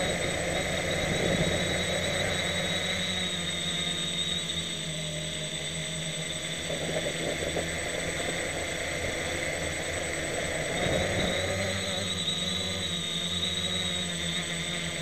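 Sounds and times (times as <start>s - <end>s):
quadcopter propellers whirring: 0.0s - 15.0s
steady high whine: 0.0s - 15.0s.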